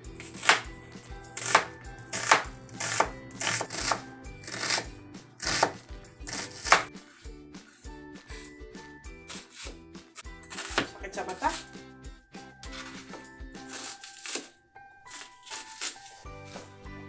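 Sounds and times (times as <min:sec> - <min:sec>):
knife slicing onion: 0:00.0 - 0:11.8, 0:12.6 - 0:16.8.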